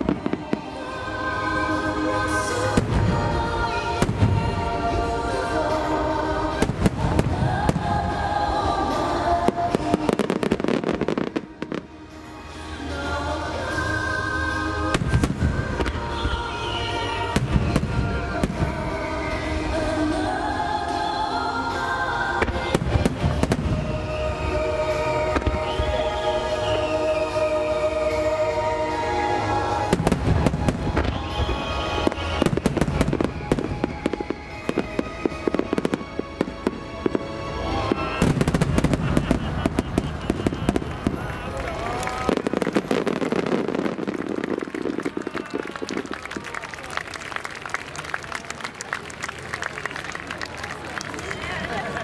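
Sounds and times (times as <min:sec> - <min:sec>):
background music: 0:00.0 - 0:52.0.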